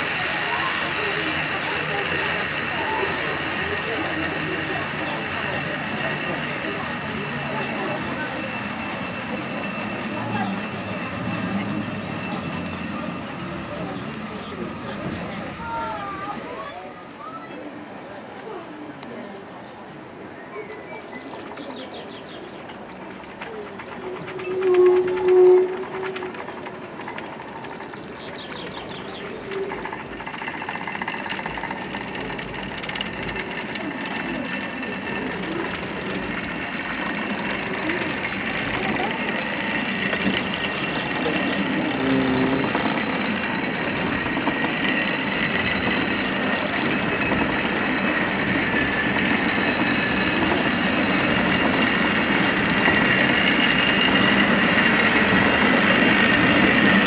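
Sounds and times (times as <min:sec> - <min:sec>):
railway car wheels rumbling: 0:00.0 - 0:57.0.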